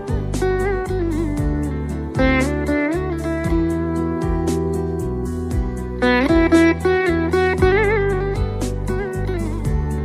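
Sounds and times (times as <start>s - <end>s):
plucked guitar melody: 0.0s - 10.0s
steady bass: 0.0s - 10.0s.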